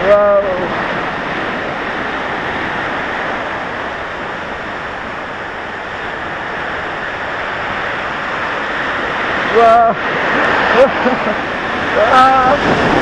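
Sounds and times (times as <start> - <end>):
water rushing along waterslide: 0.0 - 13.0.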